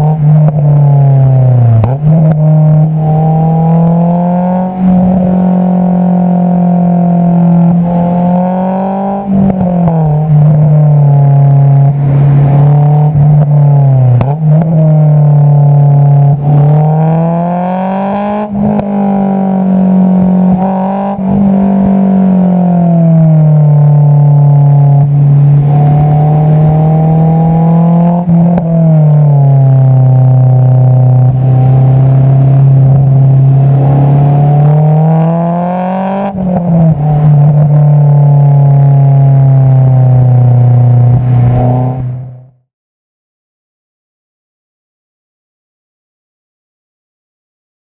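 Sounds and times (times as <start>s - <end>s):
car exhaust drone while driving: 0.0s - 42.6s.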